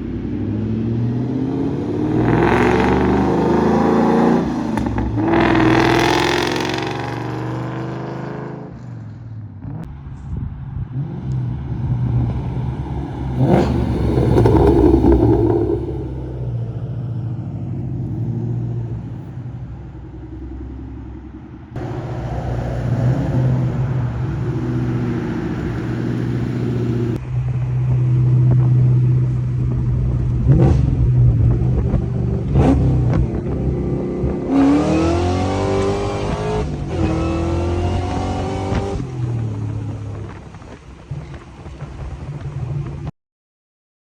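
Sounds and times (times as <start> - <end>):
car engine accelerating: 0.3 - 8.5, 10.8 - 19.3, 19.9 - 27.3, 29.3 - 40.6.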